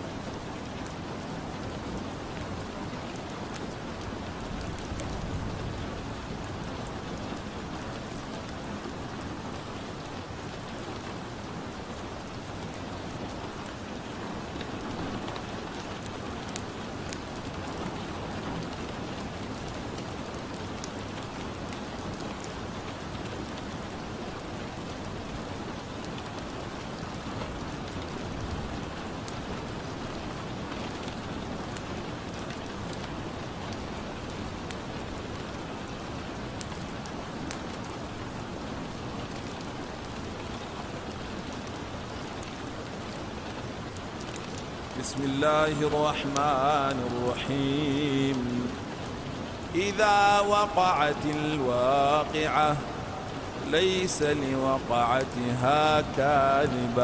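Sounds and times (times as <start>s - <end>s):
rain hiss: 0.0s - 57.0s
wood fire crackling: 0.3s - 57.0s.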